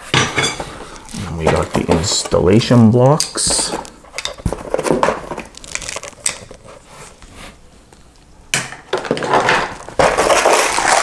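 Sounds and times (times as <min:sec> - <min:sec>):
plastic wrapping rustling: 0:00.6 - 0:08.2, 0:09.1 - 0:11.0.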